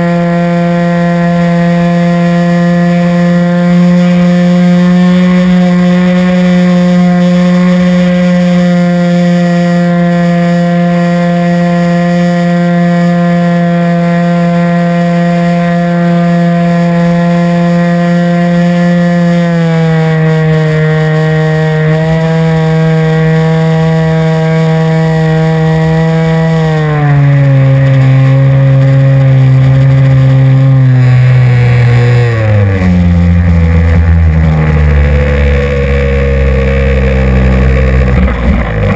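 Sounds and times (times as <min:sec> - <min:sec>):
model airplane motor and propeller: 0:00.0 - 0:38.9.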